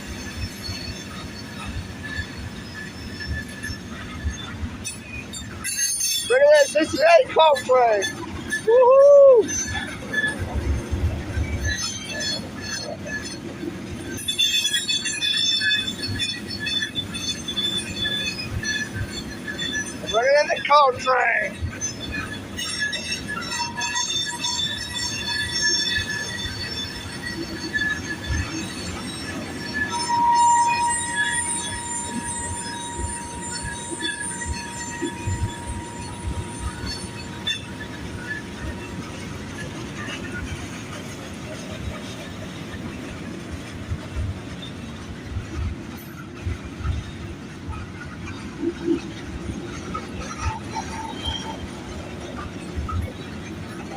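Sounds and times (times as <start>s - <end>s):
high wheel squeal: 0.0s - 53.9s
train wheels rumbling on rails: 0.0s - 53.9s.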